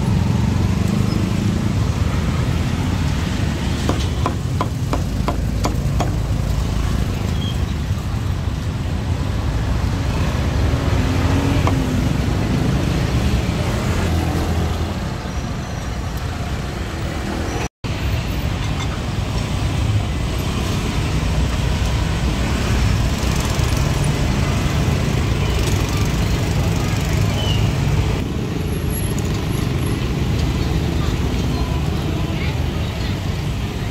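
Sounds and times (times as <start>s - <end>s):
street traffic rumble: 0.0s - 33.9s.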